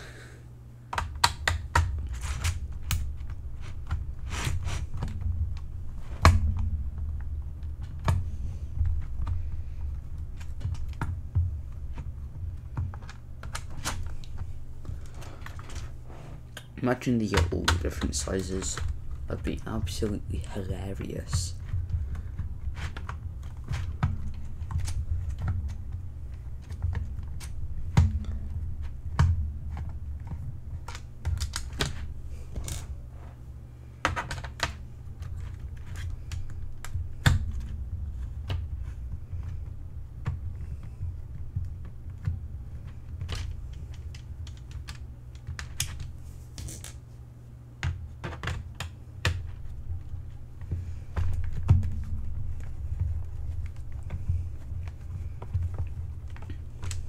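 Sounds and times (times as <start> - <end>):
low steady hum: 0.0 - 57.0
plastic parts clicking and tapping: 0.9 - 15.9, 17.3 - 32.9, 34.0 - 47.0, 47.8 - 57.0.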